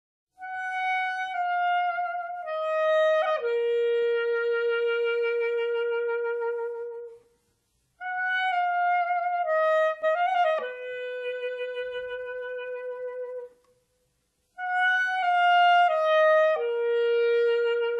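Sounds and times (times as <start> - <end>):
solo wind instrument melody: 0.4 - 7.3, 8.0 - 13.7, 14.6 - 17.9.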